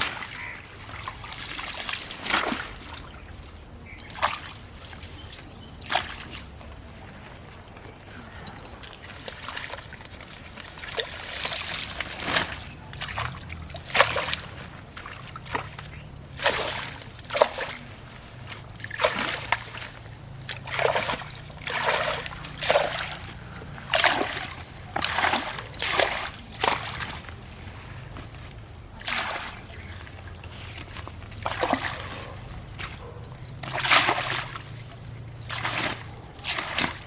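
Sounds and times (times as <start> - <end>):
water splashing in a pond: 0.0 - 37.0.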